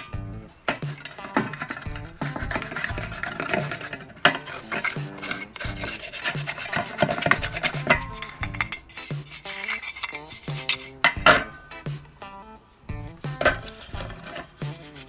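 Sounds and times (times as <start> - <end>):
scraping and rubbing on motor parts: 0.0 - 12.2, 13.0 - 15.0.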